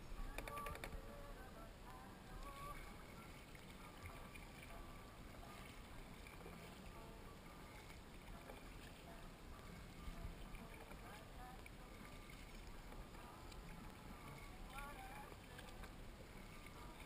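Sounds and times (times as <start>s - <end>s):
paddle dipping in water: 0.0s - 17.0s
water trickling against hull: 0.0s - 17.0s.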